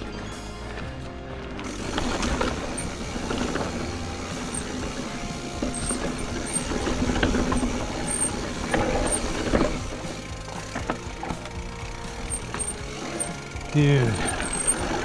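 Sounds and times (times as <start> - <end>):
bike rattling: 0.0 - 15.0
tyres rumbling over rock: 0.0 - 15.0
bike knocking on rocks: 0.6 - 15.0.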